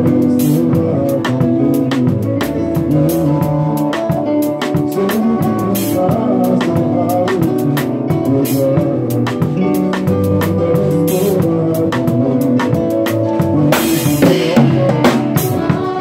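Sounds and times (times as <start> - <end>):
drum kit steady beat: 0.0 - 16.0
guitar: 0.0 - 16.0.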